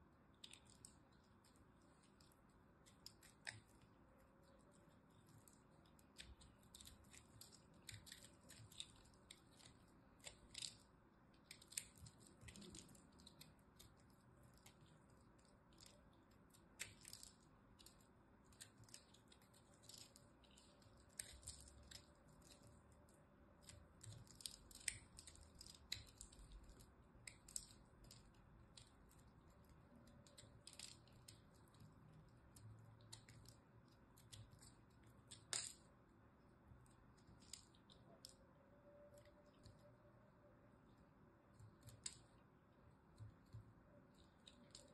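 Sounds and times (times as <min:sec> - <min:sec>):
blade shaving crumbly soap: 0:00.3 - 0:35.9, 0:41.6 - 0:42.4.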